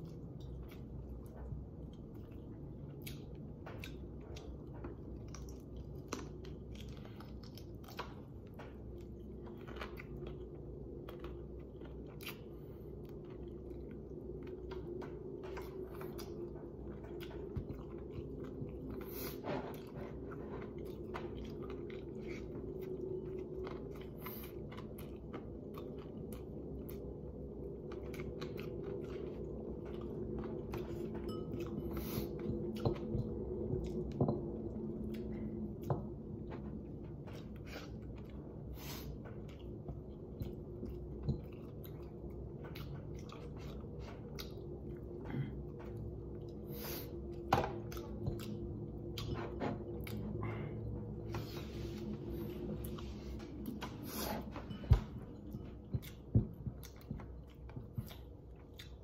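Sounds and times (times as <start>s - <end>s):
person chewing and crunching: 0.0s - 59.0s
steady low hum: 0.0s - 59.0s.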